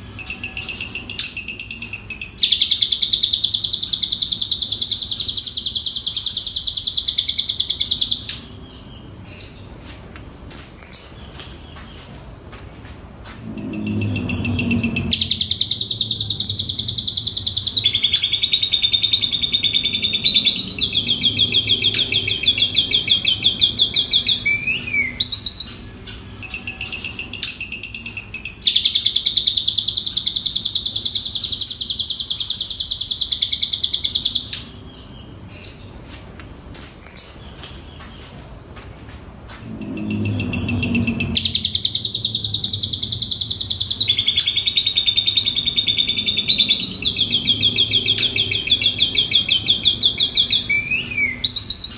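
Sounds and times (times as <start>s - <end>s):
starling singing trills: 0.0s - 9.7s, 13.4s - 35.9s, 39.5s - 51.9s.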